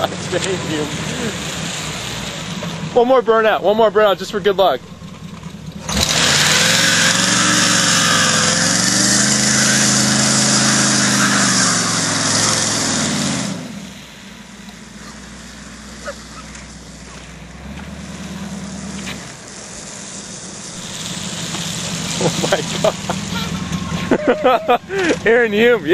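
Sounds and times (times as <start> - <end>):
car engine idling: 0.0 - 25.9
car engine revving: 0.0 - 25.9
tire spinning on wet pavement: 0.0 - 25.9.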